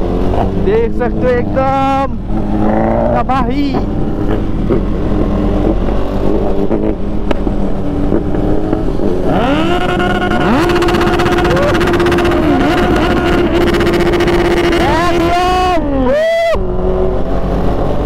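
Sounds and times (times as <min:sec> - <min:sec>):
low wind rush: 0:00.0 - 0:18.0
motorcycle engine revving: 0:00.0 - 0:18.0.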